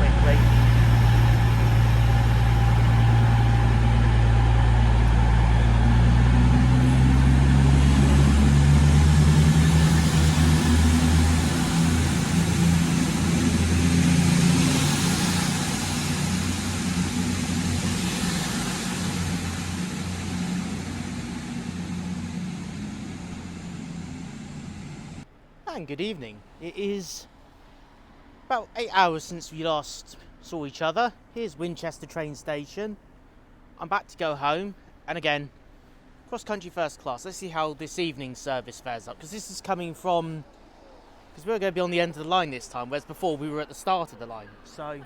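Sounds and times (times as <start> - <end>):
diesel train engines running: 0.0 - 45.0.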